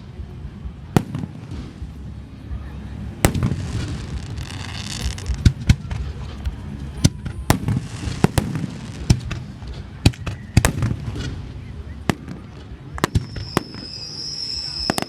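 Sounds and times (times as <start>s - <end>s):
fireworks bursting with sharp bangs: 0.0s - 15.0s
fireworks crackling hiss: 0.0s - 15.0s.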